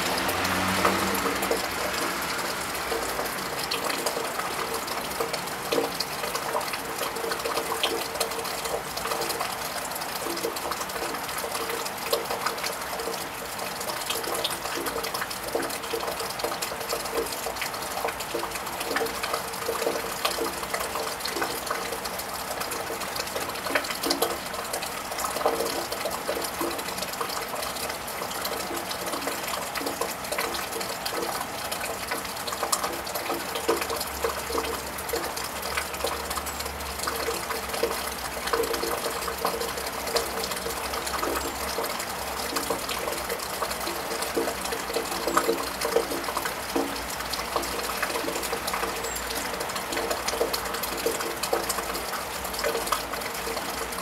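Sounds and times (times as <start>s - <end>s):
drips pattering: 0.0s - 54.0s
rain on a tiled roof: 0.0s - 54.0s.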